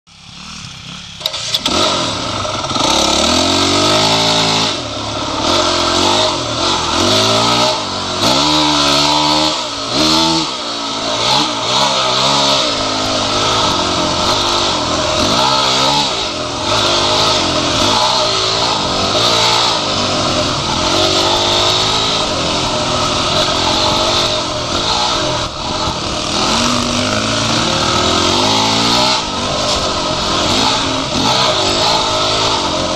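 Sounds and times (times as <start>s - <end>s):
dirt bike engine revving: 0.1s - 32.9s.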